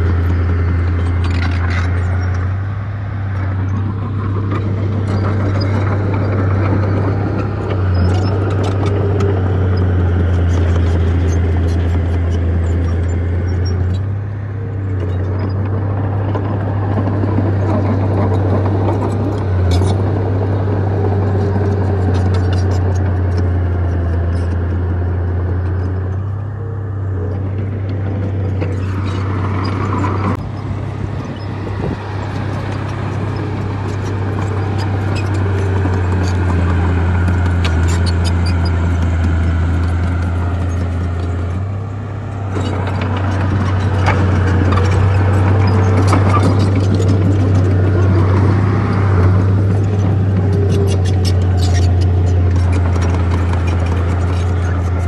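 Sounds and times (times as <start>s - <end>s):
diesel engine drone: 0.0s - 55.0s
machinery clanks and rattles: 0.0s - 55.0s.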